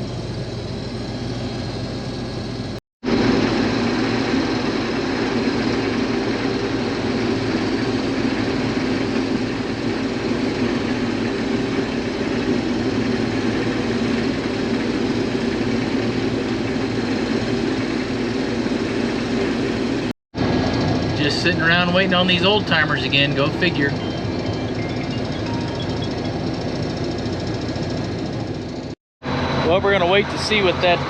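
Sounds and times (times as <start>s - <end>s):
combine harvester engine drone: 0.0s - 31.0s.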